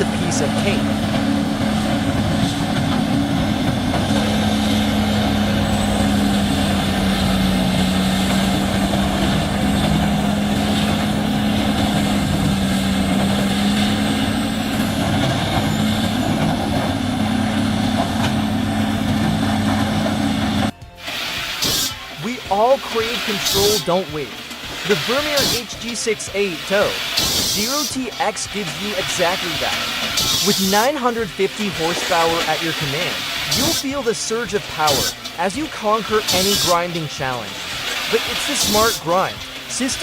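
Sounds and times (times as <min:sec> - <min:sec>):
chainsaw engine running: 0:00.0 - 0:40.0.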